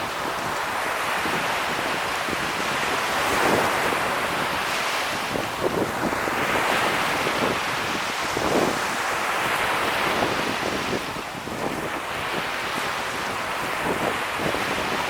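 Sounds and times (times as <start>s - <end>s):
sea surf breaking on beach: 0.0s - 15.0s
wind buffeting microphone: 0.0s - 15.0s.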